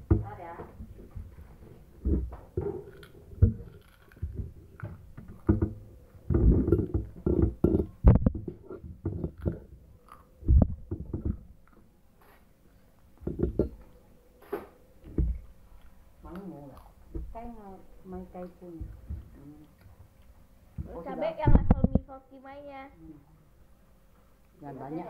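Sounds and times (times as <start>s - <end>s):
dull thumps and rustles of eating: 0.0s - 22.1s.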